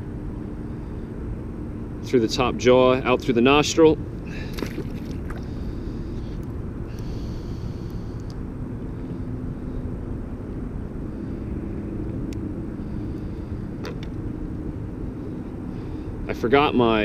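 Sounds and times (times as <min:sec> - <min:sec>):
faint droning hum: 0:00.0 - 0:17.0
low outdoor rumble: 0:00.0 - 0:17.0.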